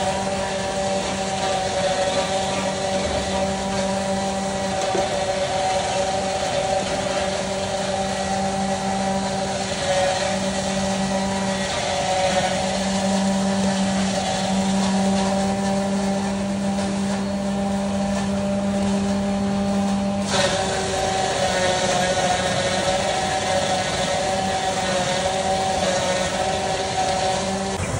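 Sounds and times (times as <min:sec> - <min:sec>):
motor humming: 0:00.0 - 0:27.9.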